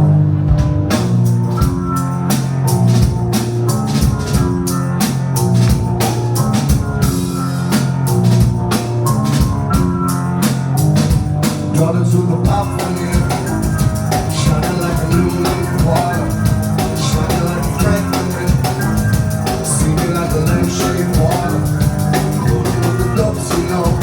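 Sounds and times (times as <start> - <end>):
bass: 0.0 - 24.0
rock band playing: 0.0 - 24.0
drum kit beat: 0.4 - 24.0.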